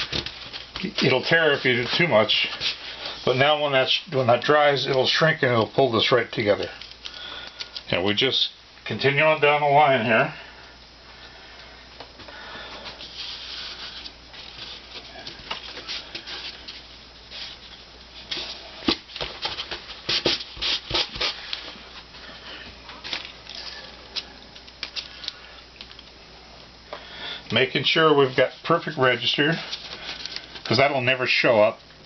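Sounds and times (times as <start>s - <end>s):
veneer sheets crackling: 0.0s - 8.0s, 12.4s - 26.2s, 27.0s - 31.8s.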